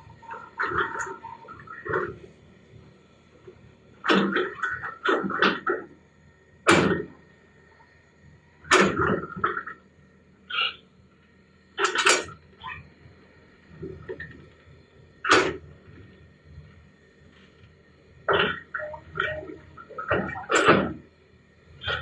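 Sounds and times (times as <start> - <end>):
excavator engine hum: 0.0 - 22.0.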